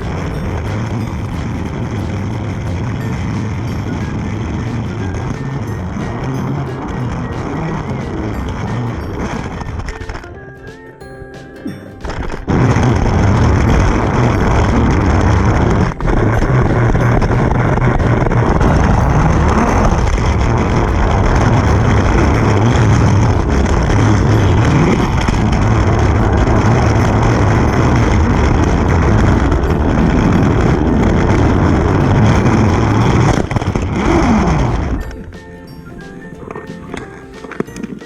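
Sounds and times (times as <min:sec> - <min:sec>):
toy train wheel clatter: 0:00.0 - 0:10.4, 0:12.0 - 0:38.0.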